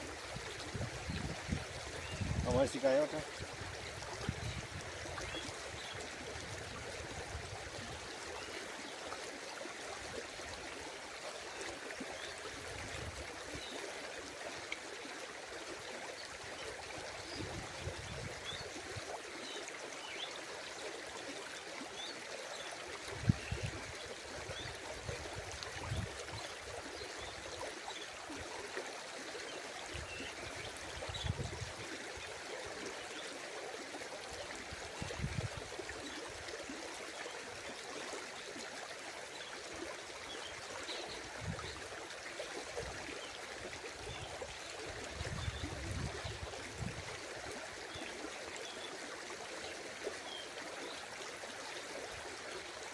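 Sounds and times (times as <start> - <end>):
running water rushing: 0.0 - 52.9.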